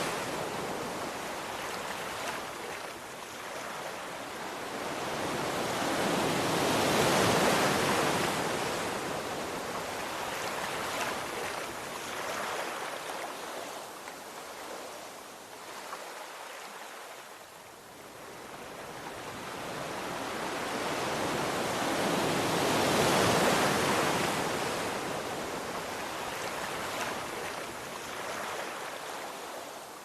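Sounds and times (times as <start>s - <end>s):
sea waves washing ashore: 0.0s - 17.3s, 17.9s - 30.0s.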